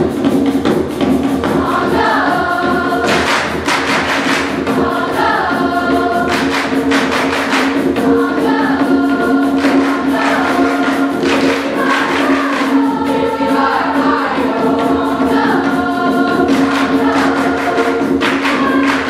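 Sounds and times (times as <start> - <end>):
quick percussion beat: 0.0 - 19.0
mixed choir singing: 1.4 - 19.0.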